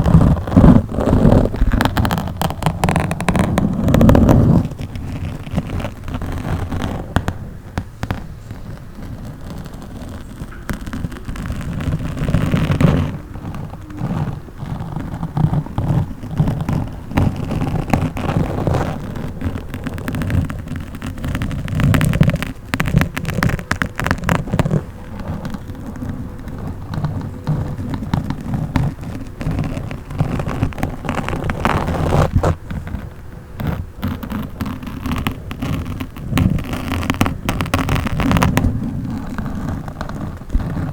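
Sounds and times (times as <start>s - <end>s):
microphone scratching crackles: 0.0s - 40.9s.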